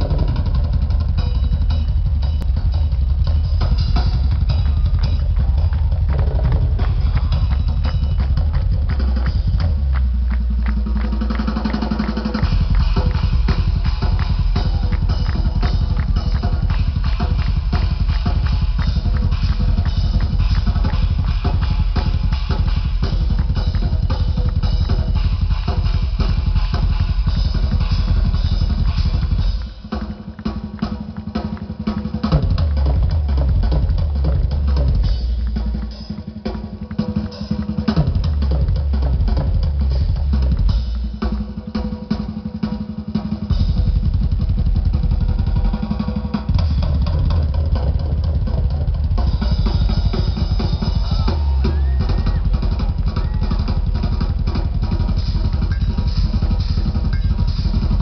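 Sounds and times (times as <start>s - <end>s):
fast bass drum strokes: 0.0s - 58.0s
rock drum kit solo: 0.0s - 58.0s
snare and cymbal hits: 0.0s - 58.0s.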